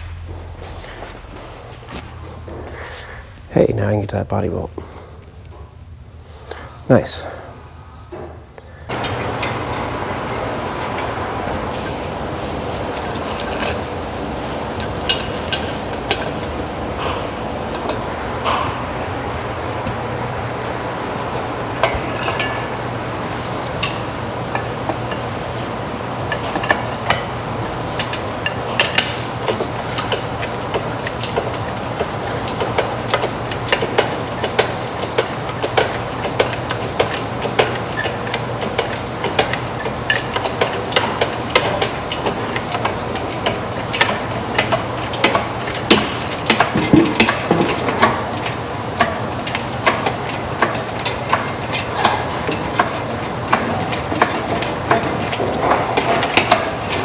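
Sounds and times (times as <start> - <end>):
steady low hum: 0.0 - 57.0
hand tools and metal parts clinking: 8.9 - 57.0.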